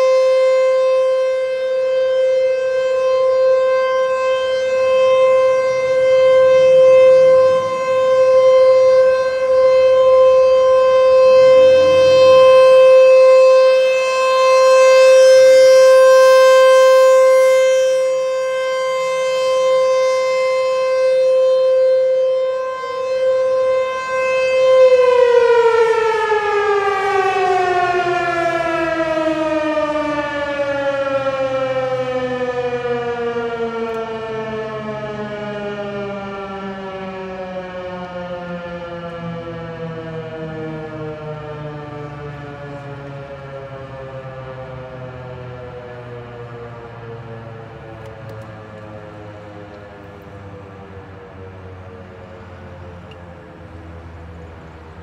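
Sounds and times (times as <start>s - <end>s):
rotating warning siren: 0.0s - 55.0s
siren winding down: 0.0s - 55.0s.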